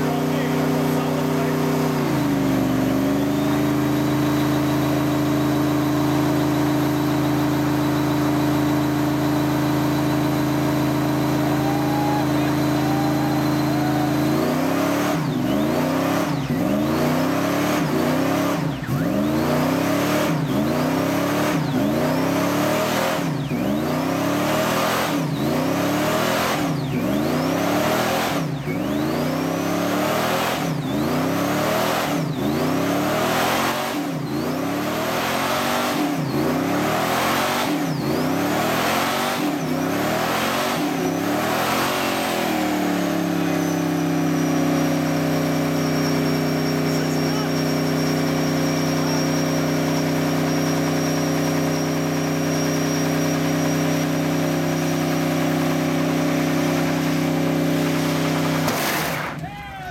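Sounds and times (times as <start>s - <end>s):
truck engine revving: 0.0s - 59.5s
tire squealing on pavement: 0.0s - 59.9s.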